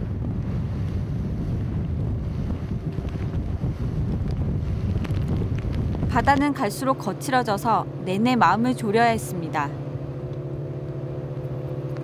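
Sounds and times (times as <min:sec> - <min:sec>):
motorboat engine rumble: 0:00.0 - 0:12.0
water rushing around hull: 0:00.0 - 0:12.0
wind buffeting microphone: 0:00.0 - 0:12.0.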